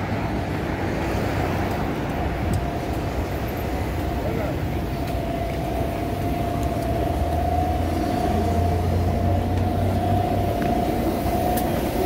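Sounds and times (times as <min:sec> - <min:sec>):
bus engine idling: 0:00.0 - 0:12.0
constant hum: 0:00.0 - 0:12.0.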